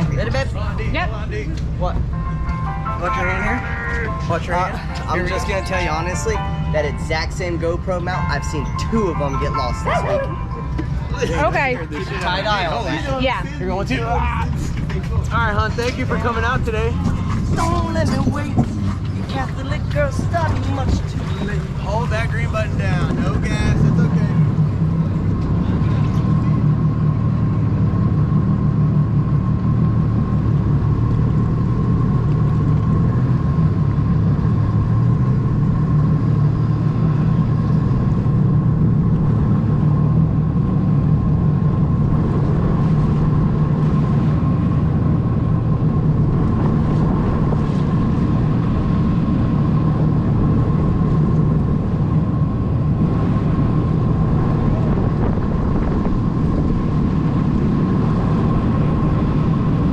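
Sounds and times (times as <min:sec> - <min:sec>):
jet ski engine droning: 0:00.0 - 0:59.9.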